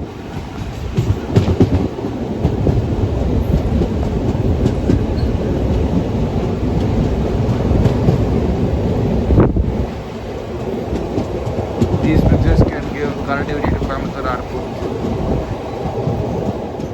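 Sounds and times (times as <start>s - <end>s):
clacks over rail joints: 0.0s - 8.6s, 10.5s - 16.9s
train wheels rumbling on rail: 0.0s - 16.9s.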